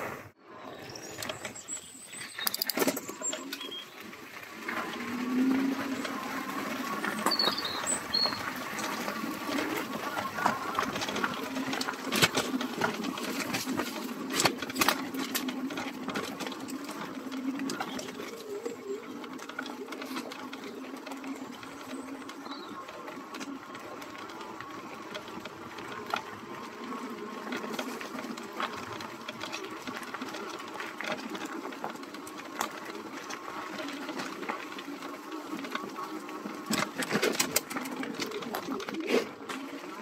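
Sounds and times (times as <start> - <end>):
bike clicks and rattles: 0.8 - 40.0
tyre rolling noise: 2.6 - 40.0.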